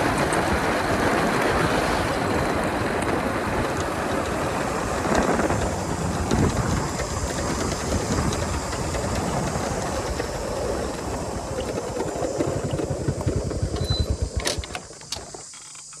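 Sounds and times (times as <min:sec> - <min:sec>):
wind rush: 0:00.0 - 0:13.7
motorcycle engine running: 0:00.0 - 0:16.0.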